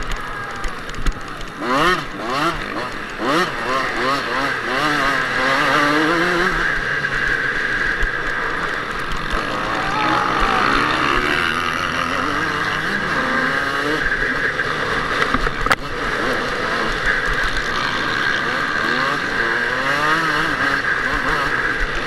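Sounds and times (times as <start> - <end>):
motocross bike revving: 0.0 - 22.0
other motocross bikes: 0.0 - 22.0.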